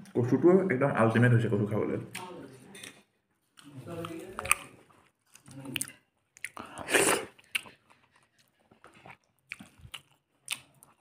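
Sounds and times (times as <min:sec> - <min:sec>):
person chewing food: 0:02.1 - 0:11.0.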